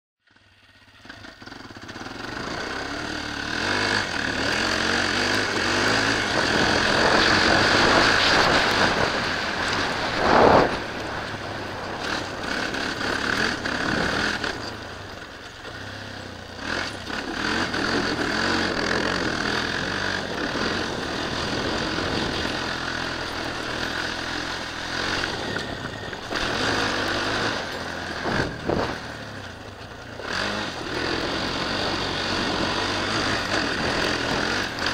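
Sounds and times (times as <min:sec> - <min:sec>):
quad bike engine revving: 0:00.2 - 0:34.9.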